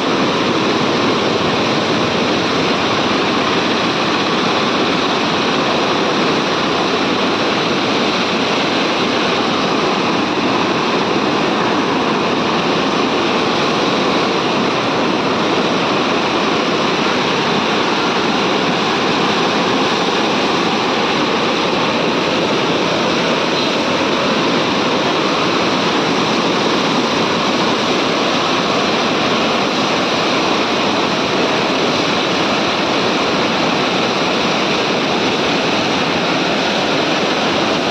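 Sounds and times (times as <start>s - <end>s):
floodwater rushing: 0.0s - 37.9s.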